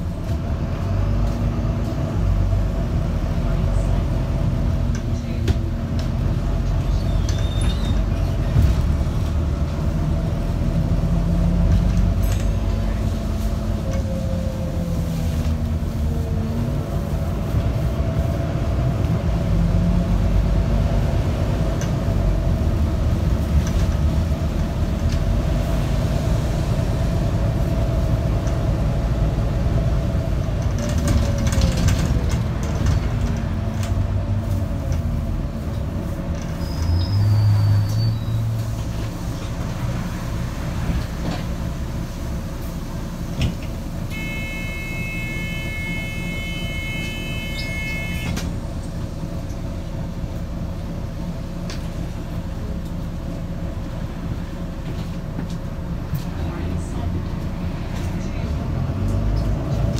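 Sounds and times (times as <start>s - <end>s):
bus engine rumble: 0.0s - 59.9s
road noise: 0.0s - 59.9s.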